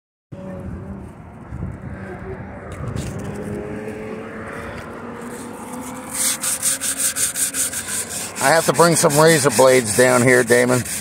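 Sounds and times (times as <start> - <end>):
vehicle engine rumbling: 0.3 - 11.0.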